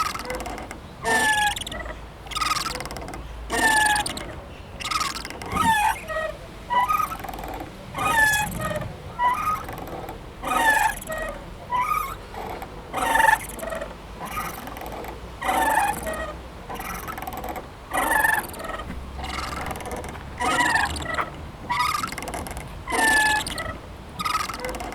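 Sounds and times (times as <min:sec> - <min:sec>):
playground swing squeaking: 0:00.0 - 0:24.9.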